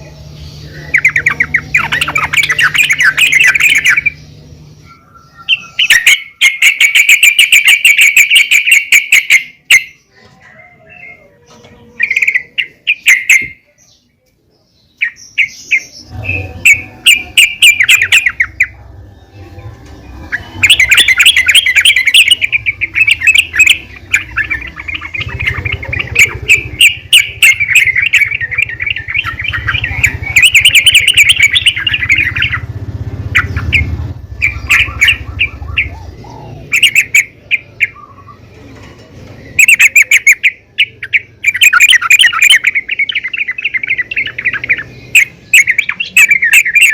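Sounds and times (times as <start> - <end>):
bird chattering calls: 0.0 - 14.1, 14.9 - 46.9.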